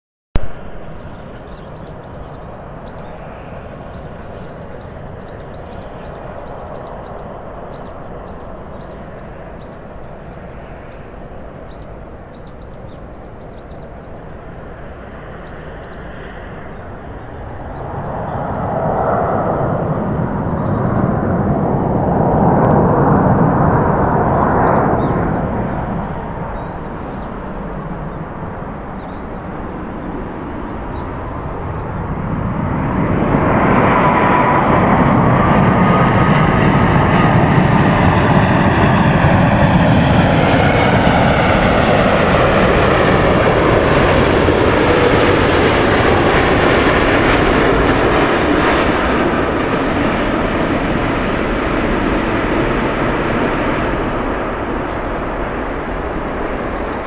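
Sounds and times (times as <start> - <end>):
jet engine rumble: 0.4 - 57.0
jet engine whine: 0.4 - 57.0.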